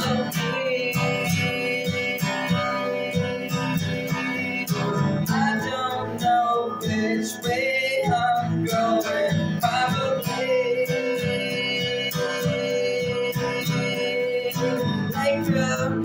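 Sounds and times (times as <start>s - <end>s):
person singing: 0.0s - 16.0s
strummed guitar: 0.0s - 16.0s.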